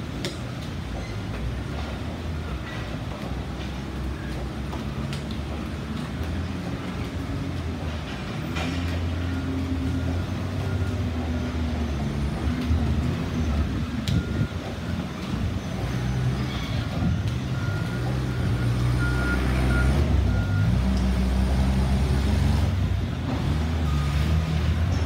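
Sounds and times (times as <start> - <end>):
machinery rumbling and rattling: 0.0 - 25.0.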